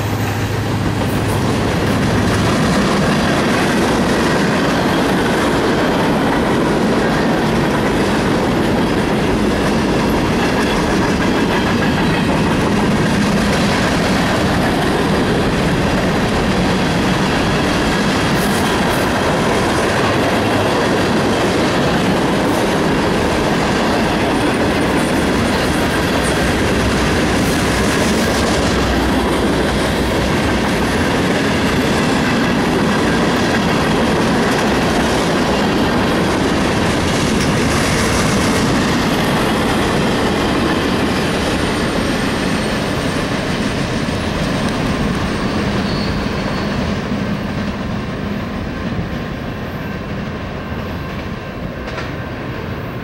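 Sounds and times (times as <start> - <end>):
clickety-clack over rail joints: 0.0 - 53.0
train wheels rumbling on rails: 0.0 - 53.0.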